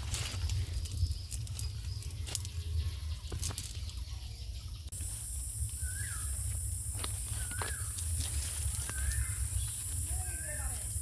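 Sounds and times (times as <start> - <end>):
bird chirp: 0.0 - 11.0.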